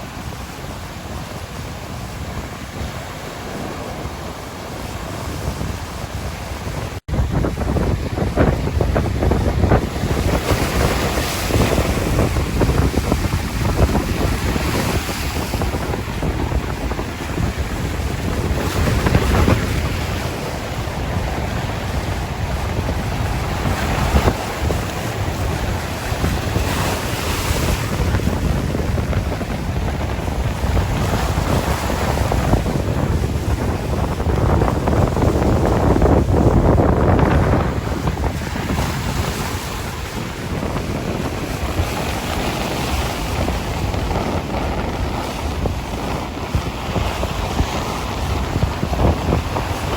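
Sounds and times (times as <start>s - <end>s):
sea surf washing ashore: 0.0s - 49.9s
wind rumble on microphone: 0.0s - 49.9s.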